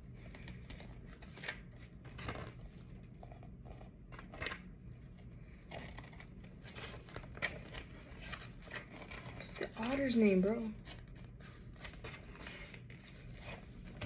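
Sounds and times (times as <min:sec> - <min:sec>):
packaging and paper rustling: 0:00.2 - 0:14.0.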